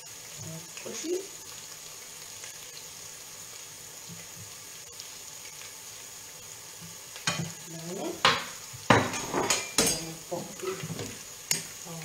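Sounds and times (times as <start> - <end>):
onions sizzling in a frying pan: 0.0 - 12.0.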